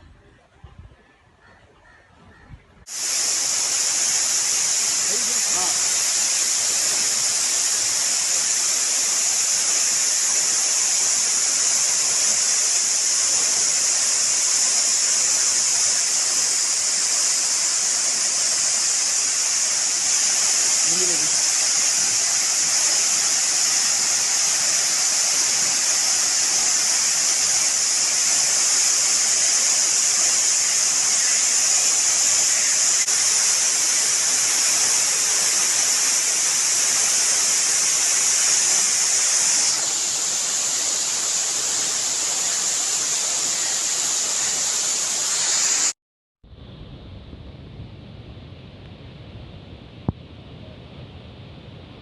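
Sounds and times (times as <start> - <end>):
waterfall rushing: 2.9 - 46.0.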